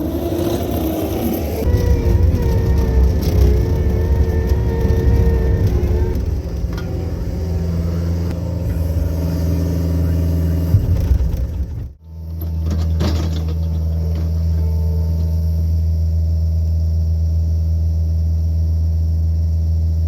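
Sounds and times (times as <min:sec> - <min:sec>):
hydraulic whine: 0:00.0 - 0:17.8
diesel engine running: 0:00.0 - 0:20.0.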